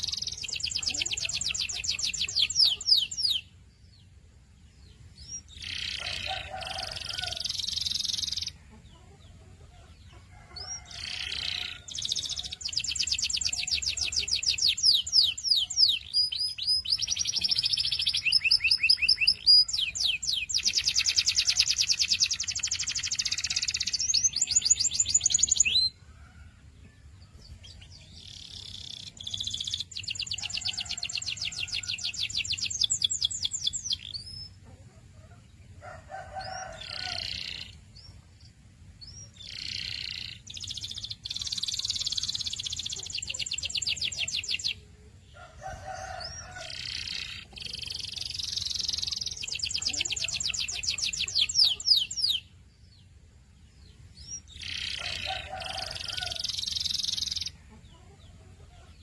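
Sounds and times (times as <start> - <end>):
canary singing trills: 0.0 - 26.5, 27.1 - 59.0.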